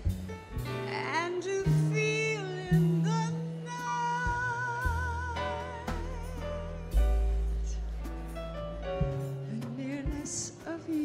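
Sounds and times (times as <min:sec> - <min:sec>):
jazz combo playing ballad: 0:00.0 - 0:11.0.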